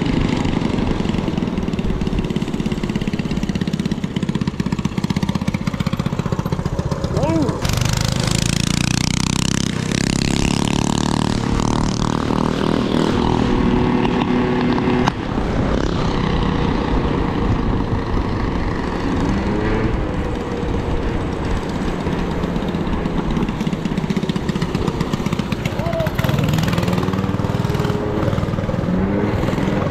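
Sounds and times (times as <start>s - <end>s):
road noise: 0.0s - 29.9s
vehicle engine running: 0.0s - 29.9s.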